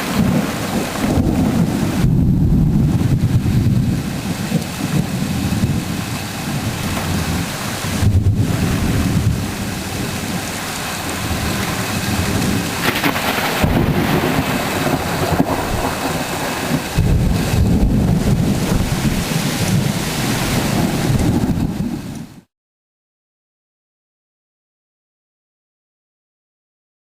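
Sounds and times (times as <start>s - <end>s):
steady rain: 0.0s - 22.5s
thunder rolling: 0.0s - 22.5s.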